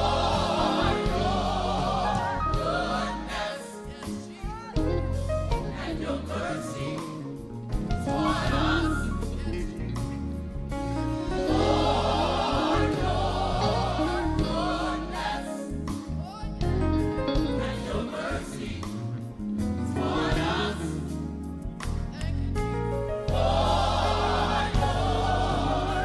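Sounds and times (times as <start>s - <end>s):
gospel choir singing: 0.0s - 21.9s, 22.9s - 26.0s
bass: 0.0s - 26.0s
keyboards: 0.0s - 26.0s.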